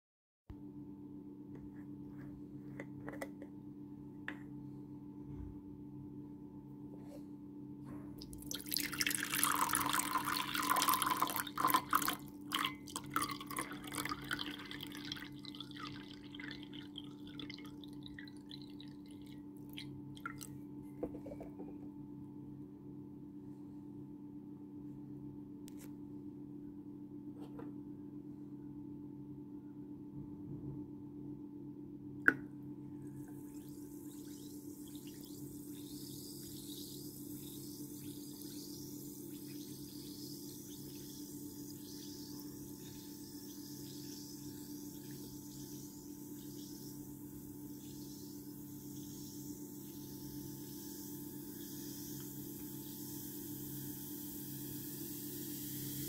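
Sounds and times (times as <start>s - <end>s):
low hum: 0.5s - 56.0s.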